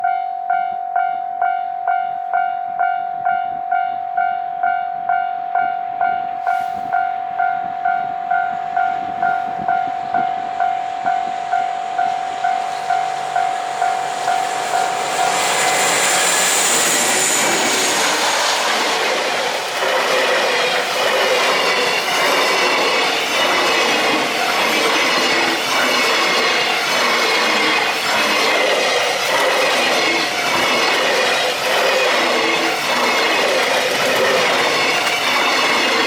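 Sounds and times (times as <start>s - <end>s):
freight train rushing past: 5.6s - 36.0s.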